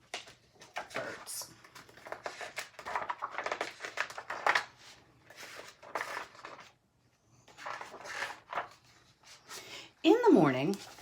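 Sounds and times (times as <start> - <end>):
paper pages rustling: 0.0 - 6.8, 7.4 - 9.6, 10.6 - 11.0.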